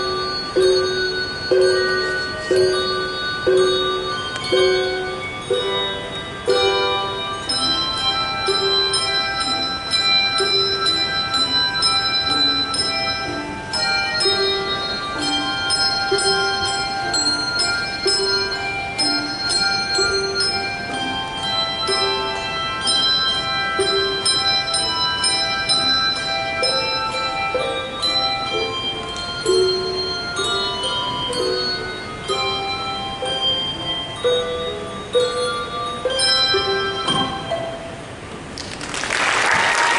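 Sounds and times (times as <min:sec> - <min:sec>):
handbell ensemble playing: 0:00.0 - 0:38.6.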